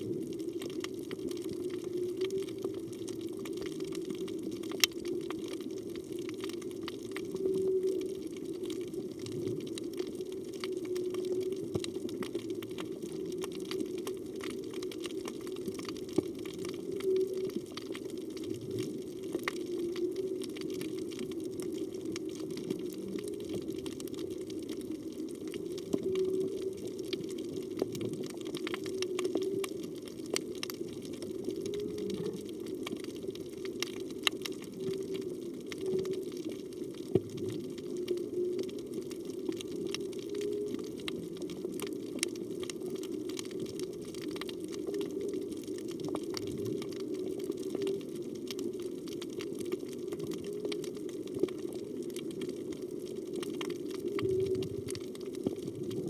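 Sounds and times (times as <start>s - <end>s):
crackle of tiny clicks: 0.0s - 56.0s.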